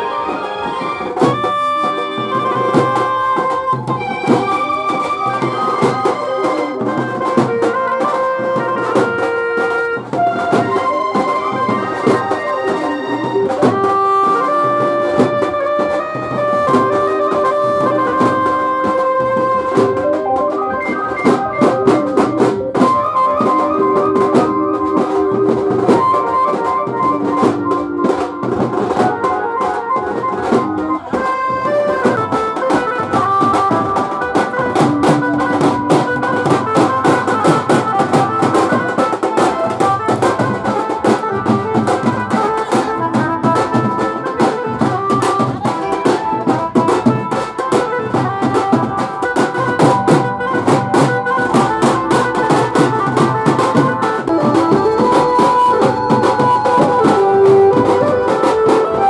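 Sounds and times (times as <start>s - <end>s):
held melody notes: 0.0s - 59.0s
steady drum beat: 0.0s - 59.0s.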